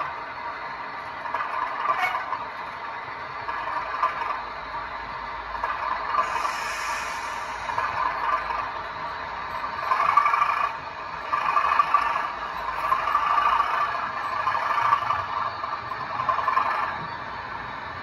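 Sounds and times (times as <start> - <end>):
diesel engine sound from small speaker: 0.0 - 18.0
wheels rattling on track: 0.0 - 18.0.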